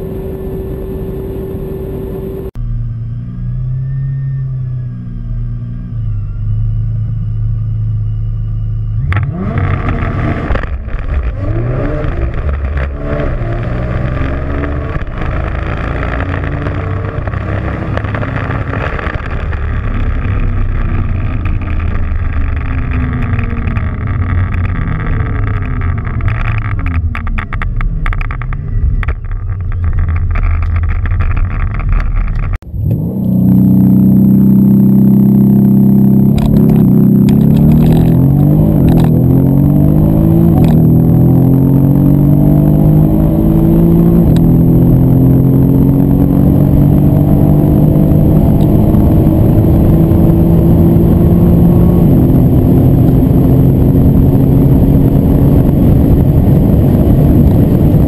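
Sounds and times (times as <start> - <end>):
car engine revving and accelerating: 0.0 - 28.8, 32.6 - 58.0
car engine holding steady revs: 0.0 - 58.0.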